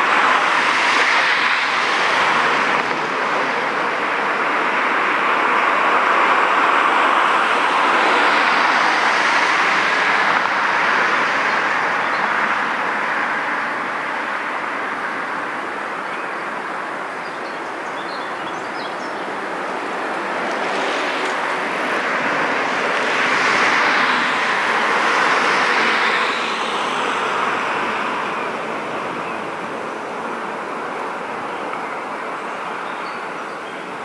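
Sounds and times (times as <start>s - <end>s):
passing vehicle rushing: 0.0s - 15.8s, 17.8s - 34.0s.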